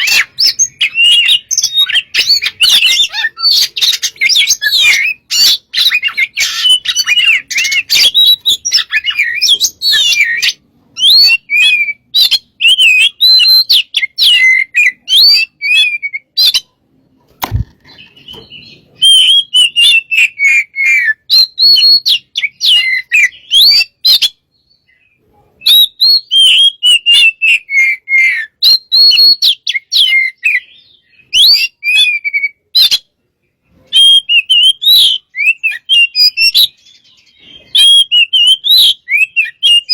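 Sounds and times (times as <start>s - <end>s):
bird singing whistled phrases: 0.0s - 16.7s, 18.1s - 33.1s, 33.9s - 39.9s.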